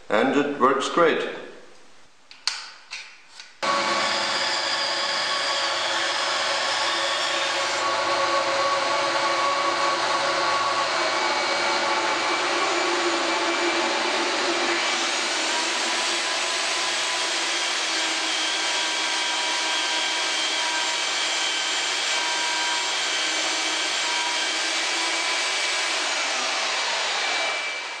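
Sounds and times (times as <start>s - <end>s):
machine whine: 3.6s - 28.0s
shop vacuum running: 3.6s - 28.0s.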